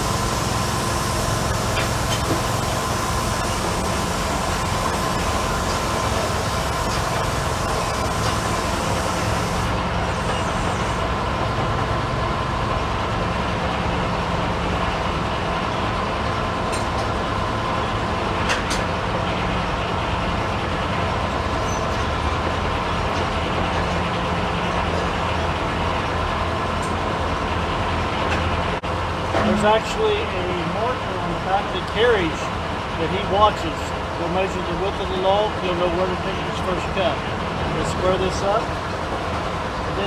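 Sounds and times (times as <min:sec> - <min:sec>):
sawmill machinery drone and whine: 0:00.0 - 0:40.0.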